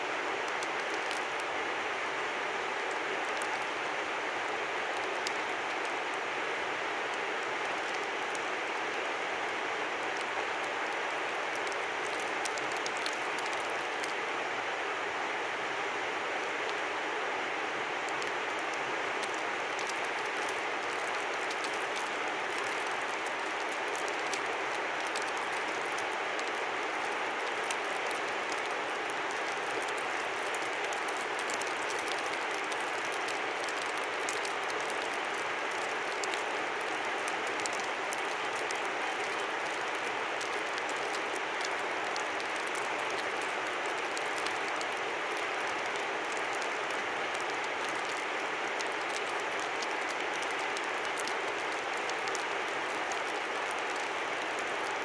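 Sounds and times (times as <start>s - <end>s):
river flowing: 0.0s - 55.0s
crackle of small ticks: 0.4s - 1.5s, 2.8s - 3.9s, 4.5s - 6.3s, 7.6s - 8.6s, 10.1s - 14.2s, 18.1s - 55.0s.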